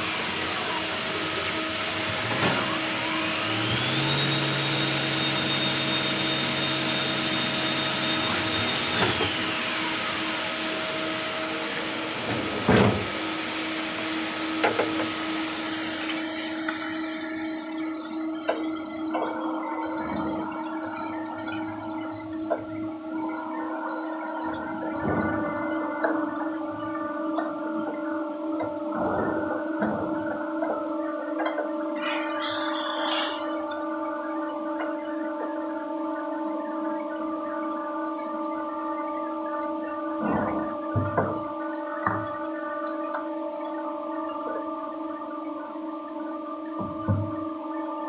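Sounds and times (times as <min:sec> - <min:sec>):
lathe spindle whine: 0:00.0 - 0:40.3
machine hum: 0:00.0 - 0:48.0.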